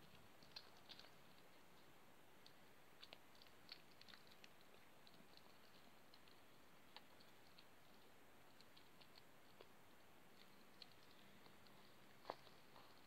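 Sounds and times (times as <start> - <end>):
kitten chewing food: 0.0 - 13.0.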